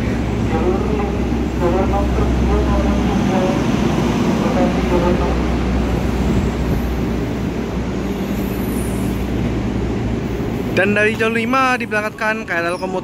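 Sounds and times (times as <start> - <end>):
electric train humming: 0.0 - 12.7.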